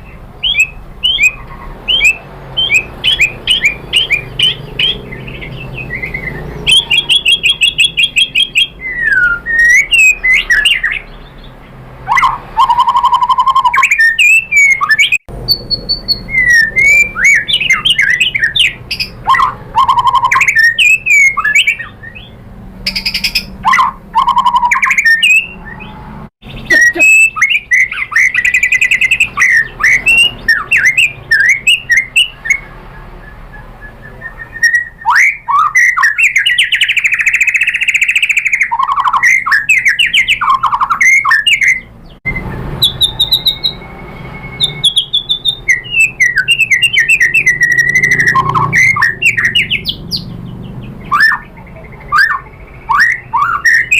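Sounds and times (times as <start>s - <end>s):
bird singing varied song: 0.0s - 53.9s.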